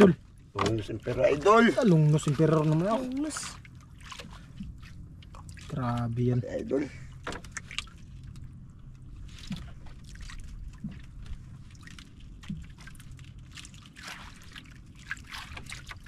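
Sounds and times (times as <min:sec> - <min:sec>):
faint low hum: 0:00.0 - 0:16.0
water sloshing around a boat: 0:00.0 - 0:16.0
light splashes and knocks: 0:00.6 - 0:06.3, 0:07.1 - 0:16.0.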